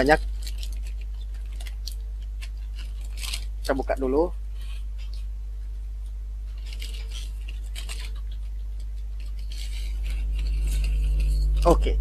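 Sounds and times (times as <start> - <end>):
plastic bag crinkling: 0.0 - 12.0
steady low hum: 0.0 - 12.0.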